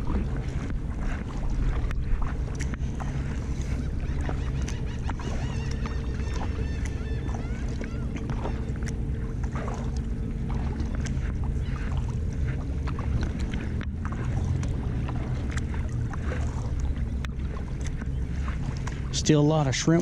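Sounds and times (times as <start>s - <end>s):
paddle splashing water: 0.0s - 20.0s
steady low hum: 0.0s - 20.0s.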